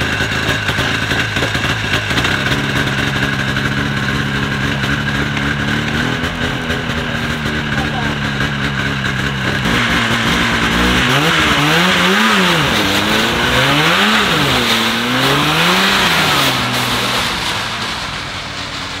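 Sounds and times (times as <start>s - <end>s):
snowmobile engine idling and revving: 0.0s - 19.0s.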